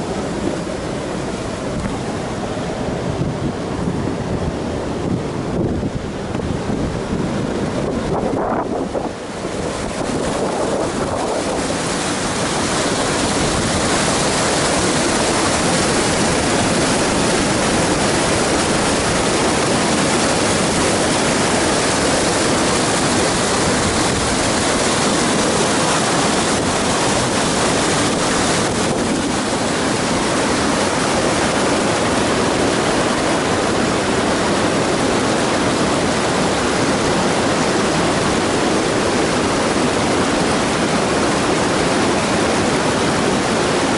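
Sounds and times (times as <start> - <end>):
river water rushing over rocks: 0.0 - 43.9.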